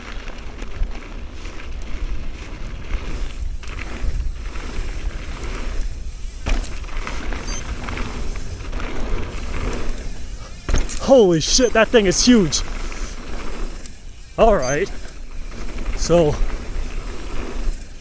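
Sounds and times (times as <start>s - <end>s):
bike knocking over bumps: 0.0s - 18.0s
tyres rolling over dirt trail: 0.0s - 18.0s
wind buffeting microphone: 0.0s - 18.0s.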